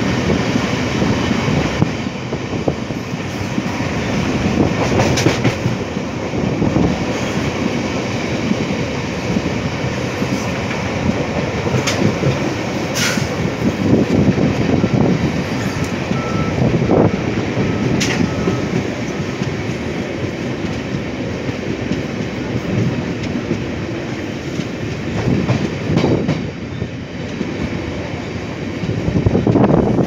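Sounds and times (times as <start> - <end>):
train wheels rumbling on rails: 0.0 - 30.0
wheels clacking at rail joints: 0.0 - 30.0.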